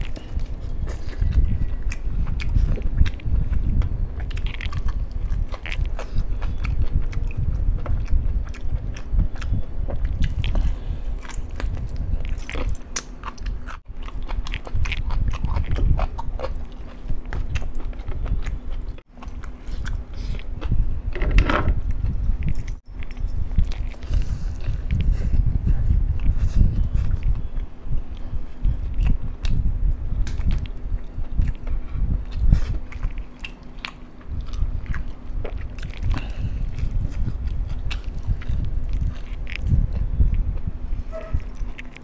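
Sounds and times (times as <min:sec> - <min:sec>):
man chewing crispy food: 0:00.0 - 0:21.0, 0:21.8 - 0:42.0.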